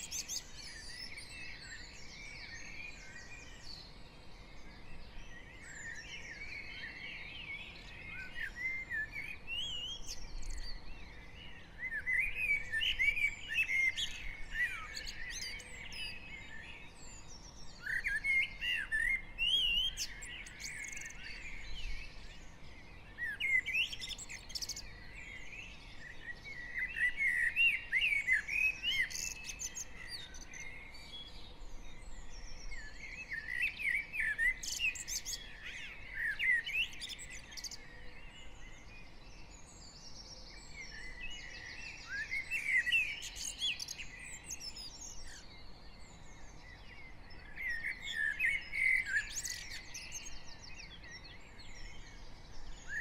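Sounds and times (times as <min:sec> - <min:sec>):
songbirds warbling and twittering: 0:00.0 - 0:53.0.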